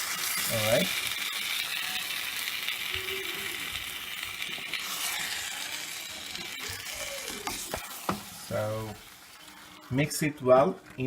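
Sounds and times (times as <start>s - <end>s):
chicken sizzling in hot oil: 0.0s - 10.7s.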